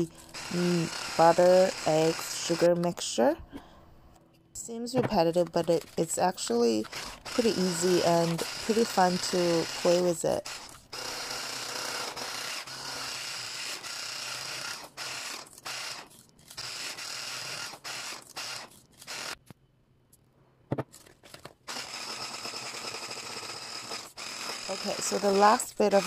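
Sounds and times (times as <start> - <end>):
electric hand mixer whirring: 0.0 - 2.9, 5.3 - 19.4, 21.7 - 26.0.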